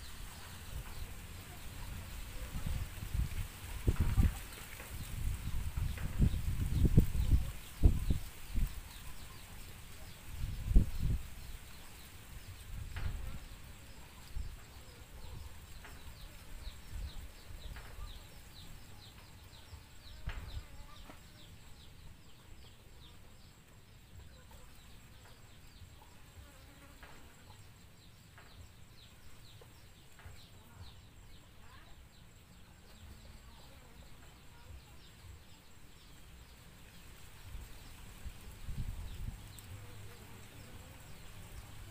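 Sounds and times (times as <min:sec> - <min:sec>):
low rumbling microphone noise: 0:00.0 - 0:26.5, 0:27.4 - 0:41.9
faint insect buzzing: 0:00.0 - 0:41.9.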